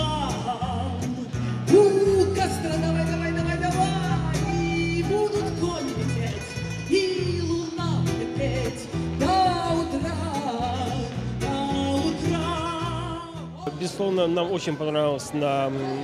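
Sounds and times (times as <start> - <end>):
woman singing into a microphone: 0.0 - 13.7
acoustic guitar: 0.0 - 16.0.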